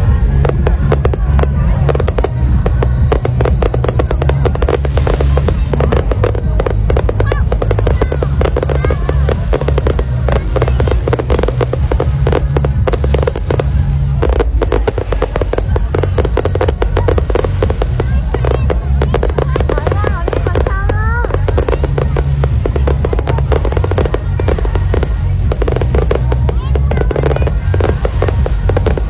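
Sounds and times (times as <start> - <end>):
continuous low rumble: 0.0 - 29.0
fireworks crackling and popping: 0.0 - 29.0.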